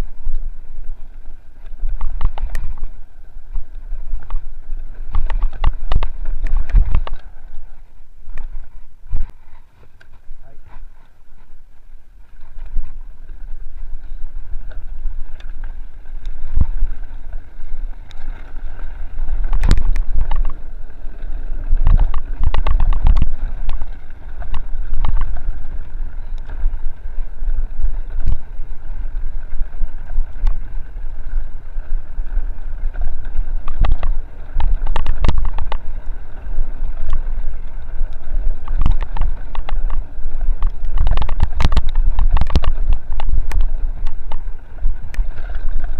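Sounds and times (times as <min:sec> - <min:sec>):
bike rattles and knocks: 0:00.0 - 0:07.6, 0:12.4 - 0:45.9
wind rumble on microphone: 0:00.0 - 0:45.9.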